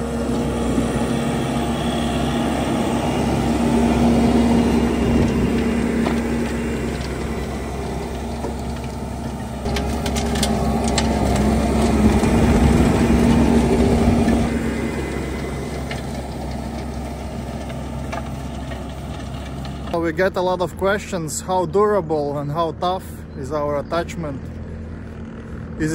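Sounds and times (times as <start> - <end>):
loader machine hum: 0.0 - 25.9.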